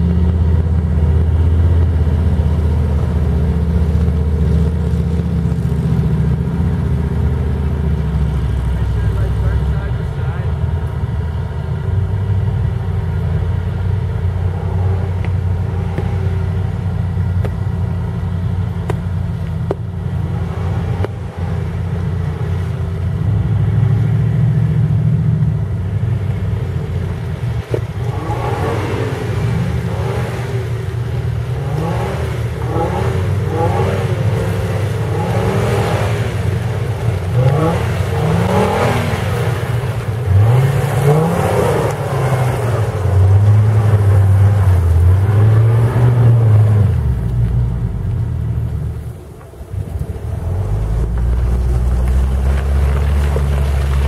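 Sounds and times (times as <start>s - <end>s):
engine revving: 0.0s - 54.0s
tyres churning mud: 0.0s - 54.0s.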